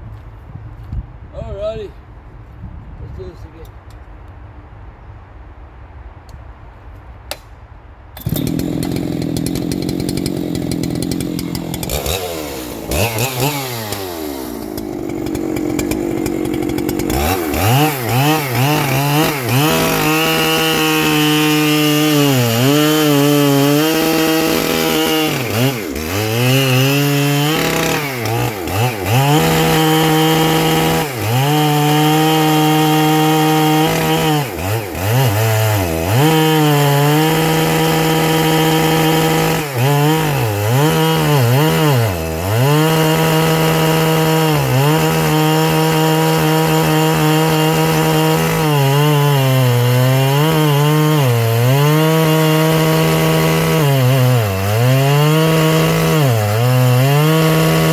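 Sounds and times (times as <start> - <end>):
chainsaw revving and cutting wood: 8.2 - 57.9.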